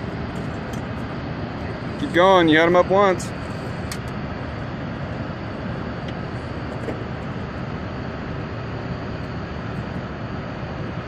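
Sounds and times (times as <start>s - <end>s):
steady low rumbling: 0.0s - 11.0s.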